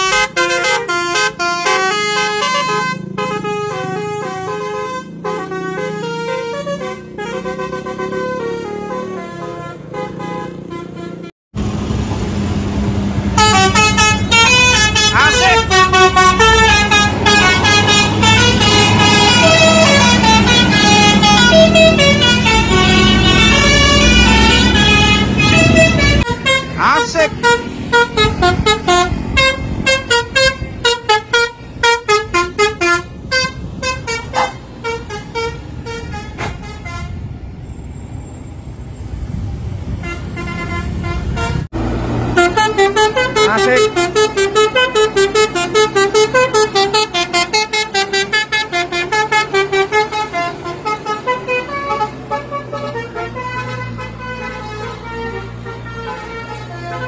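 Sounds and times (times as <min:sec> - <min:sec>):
bus horns playing melodies: 0:00.0 - 0:11.3, 0:13.2 - 0:37.5, 0:39.9 - 0:57.0.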